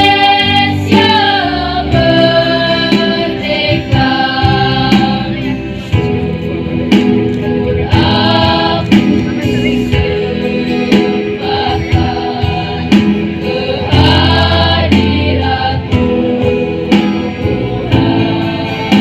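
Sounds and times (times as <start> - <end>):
backing music: 0.0 - 19.0
choir singing harmonies: 0.0 - 19.0.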